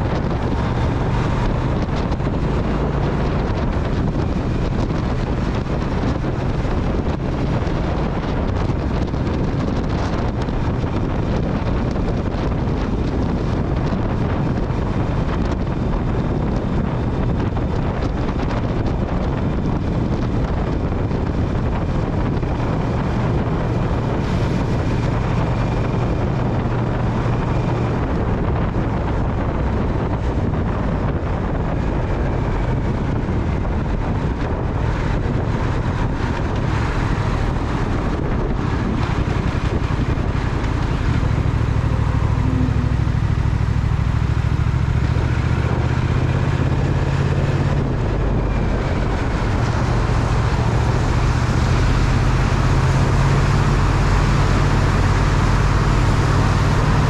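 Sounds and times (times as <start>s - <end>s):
motorcycle engine droning: 0.0s - 57.0s
wind over microphone: 0.0s - 57.0s.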